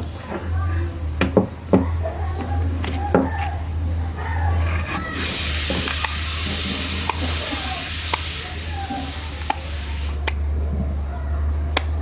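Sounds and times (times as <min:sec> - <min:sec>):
orbital sander hissing: 0:00.0 - 0:10.4.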